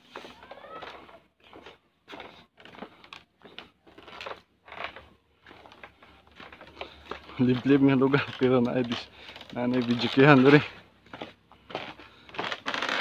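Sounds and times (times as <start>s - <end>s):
footsteps on bamboo poles: 0.0s - 13.0s.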